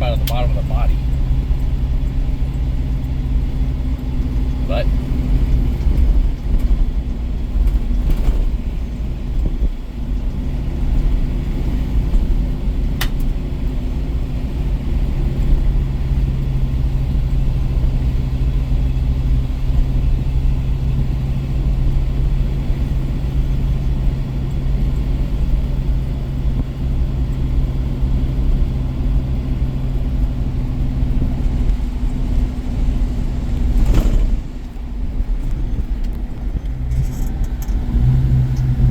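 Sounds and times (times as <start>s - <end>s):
car engine hum: 0.0s - 38.9s
road rumble: 0.0s - 38.9s.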